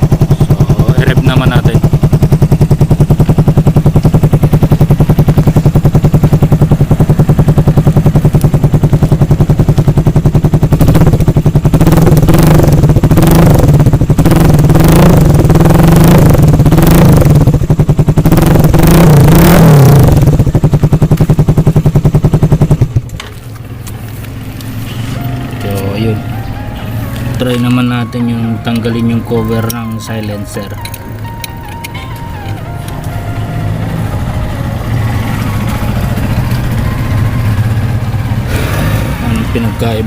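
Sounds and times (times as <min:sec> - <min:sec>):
motorcycle engine idling and revving: 0:00.0 - 0:40.0.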